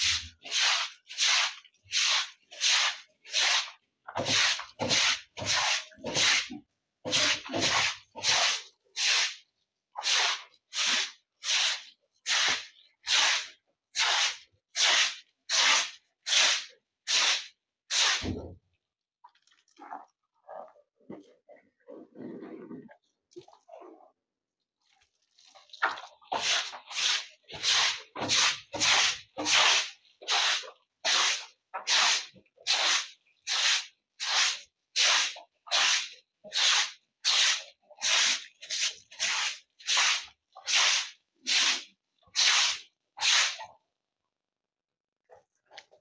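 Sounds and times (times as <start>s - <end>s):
broom scrubbing wet concrete: 0.0s - 18.6s, 24.8s - 43.8s.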